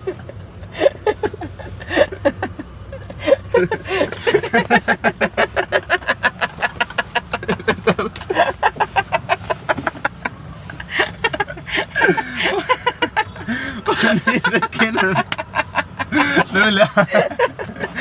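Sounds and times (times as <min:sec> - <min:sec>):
car cabin rumble: 0:00.0 - 0:18.0
men laughing hard: 0:00.0 - 0:18.0.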